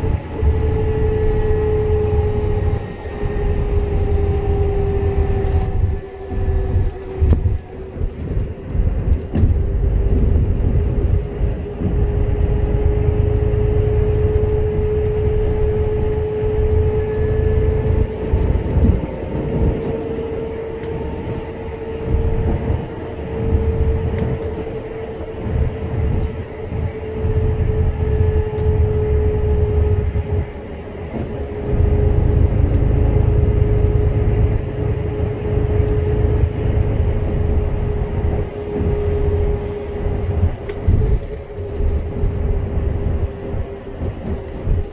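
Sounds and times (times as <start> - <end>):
tyre and wind road rumble: 0.0 - 44.9.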